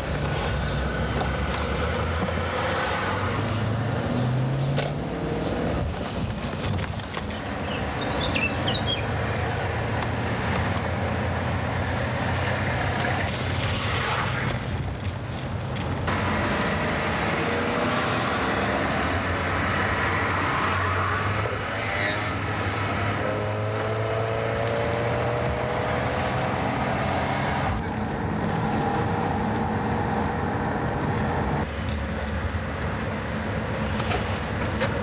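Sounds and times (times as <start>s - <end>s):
car engine and road noise: 0.0s - 35.0s
passing traffic: 0.0s - 35.0s.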